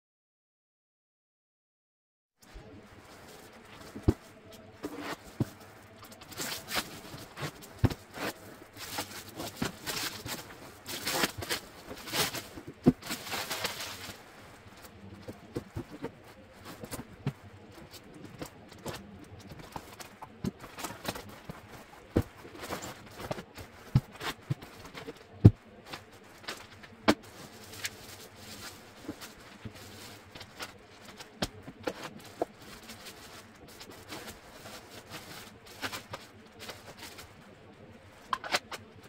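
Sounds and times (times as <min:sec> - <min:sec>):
paper and plastic bags rustling: 0:02.5 - 0:37.5.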